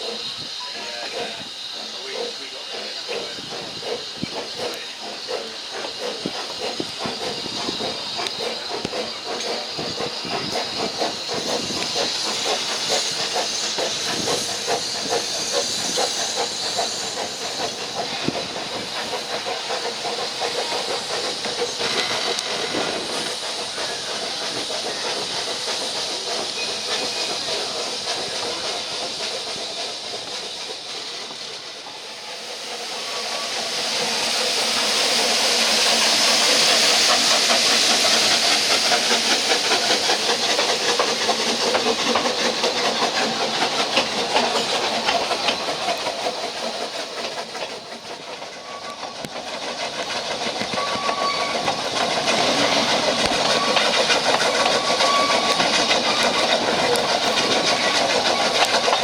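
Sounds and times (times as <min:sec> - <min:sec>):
train rushing hiss: 0:00.0 - 0:59.0.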